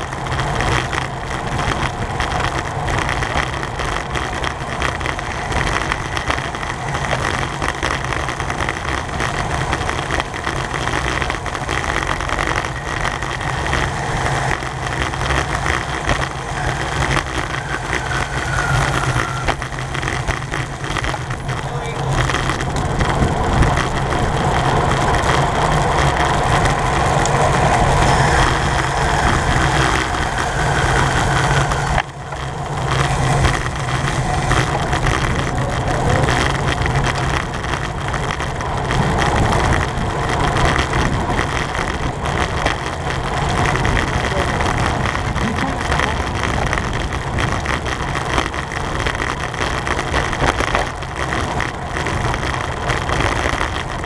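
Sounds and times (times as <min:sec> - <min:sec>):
road and tyre rumble: 0:00.0 - 0:54.0
wind rushing over microphone: 0:00.0 - 0:54.0.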